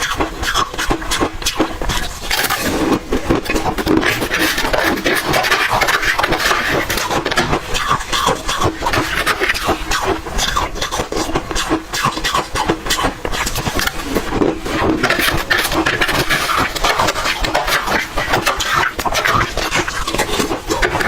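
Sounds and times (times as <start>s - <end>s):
ice crunching between teeth: 0.0s - 21.0s.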